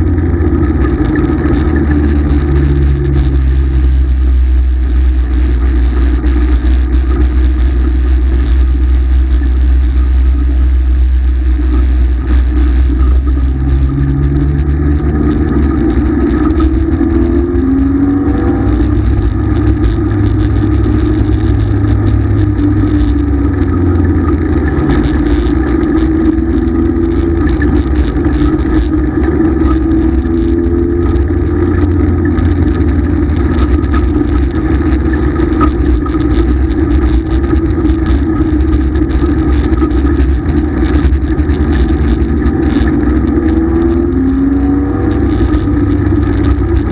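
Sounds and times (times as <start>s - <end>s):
race car engine: 0.0s - 46.9s.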